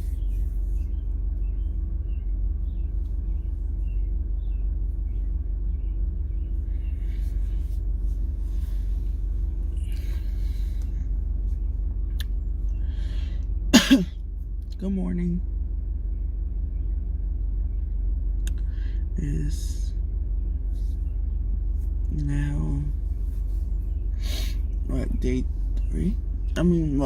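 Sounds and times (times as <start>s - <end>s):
car engine idling inside cabin: 0.0s - 27.0s.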